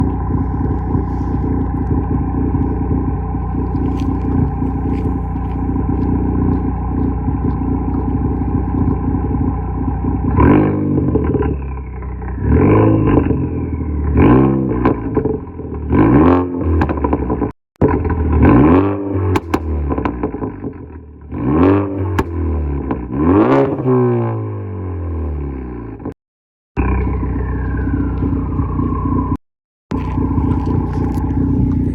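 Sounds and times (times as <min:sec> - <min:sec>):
exhaust pops and crackles: 0:00.0 - 0:24.3, 0:26.8 - 0:31.9
car engine idling and revving: 0:00.0 - 0:26.2, 0:26.8 - 0:31.9.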